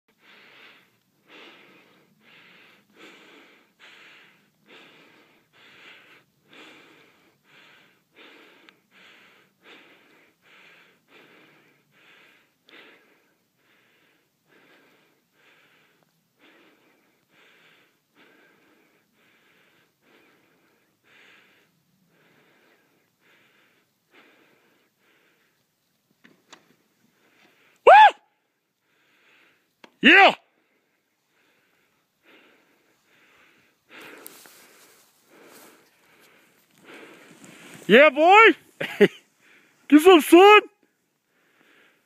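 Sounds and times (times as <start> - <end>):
person breathing hard: 0.1 - 25.7, 28.8 - 29.8, 30.5 - 40.0, 40.8 - 42.0.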